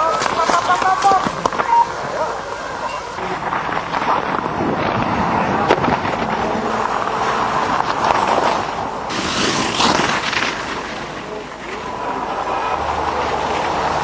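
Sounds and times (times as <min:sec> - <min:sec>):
skis scraping on ice: 0:00.0 - 0:14.0.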